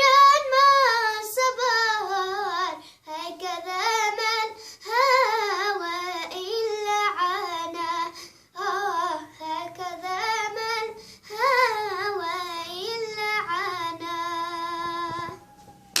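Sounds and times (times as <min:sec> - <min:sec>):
girl singing unaccompanied: 0:00.0 - 0:15.6.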